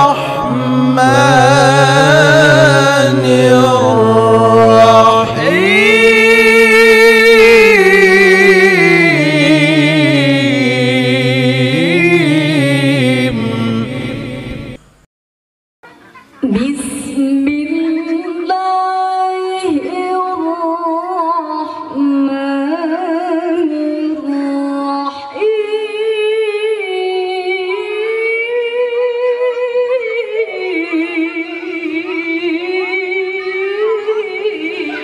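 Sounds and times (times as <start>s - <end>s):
woman reciting melodically: 0.0s - 12.3s, 15.8s - 35.0s.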